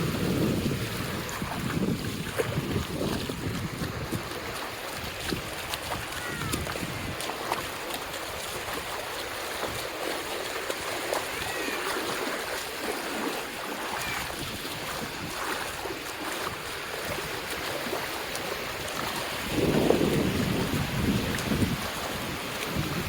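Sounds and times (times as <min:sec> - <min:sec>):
surf washing onto beach: 0:00.0 - 0:23.0.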